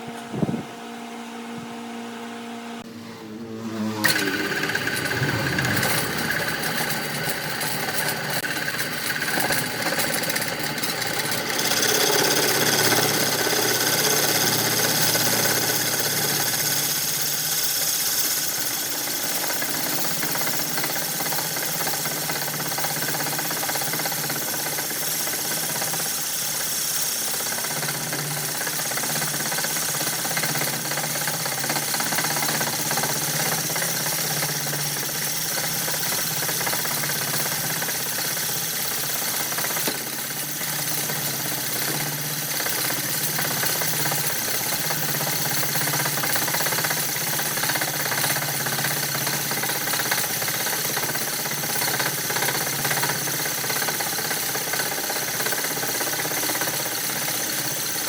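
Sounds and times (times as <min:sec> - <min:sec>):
wood lathe running: 0:03.0 - 0:58.0.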